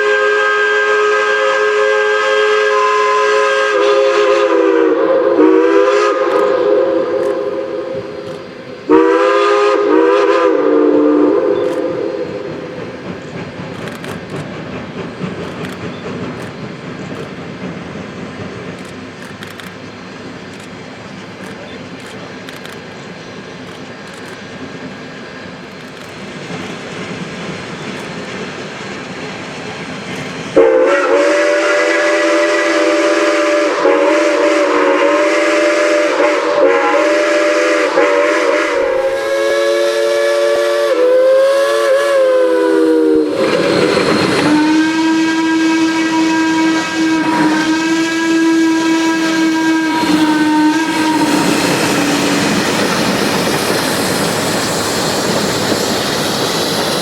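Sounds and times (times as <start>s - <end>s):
steam hiss: 0.0s - 57.0s.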